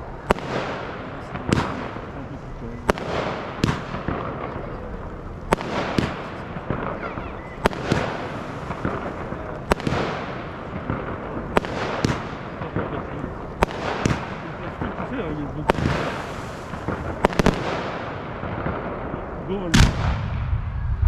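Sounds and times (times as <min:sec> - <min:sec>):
fireworks background noise: 0:00.0 - 0:21.0.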